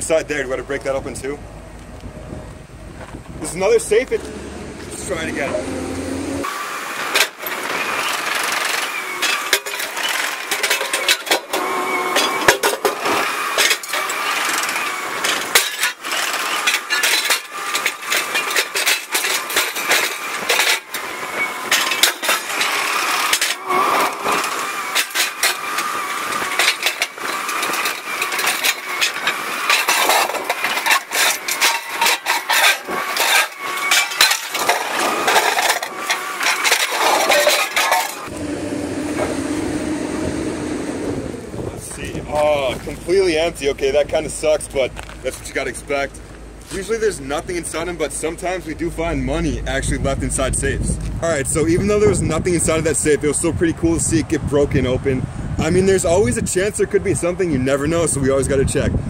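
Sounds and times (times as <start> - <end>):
excavator running: 0.0 - 53.2.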